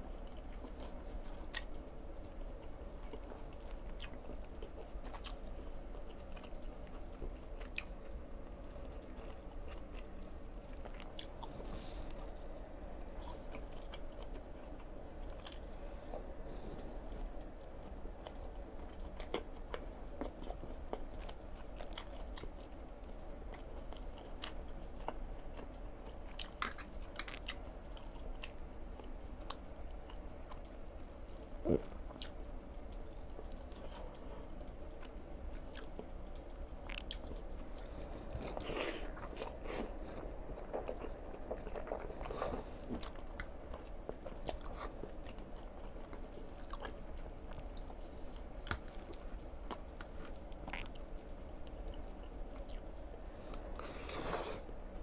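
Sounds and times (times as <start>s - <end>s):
person chewing noodles: 0.0s - 55.0s.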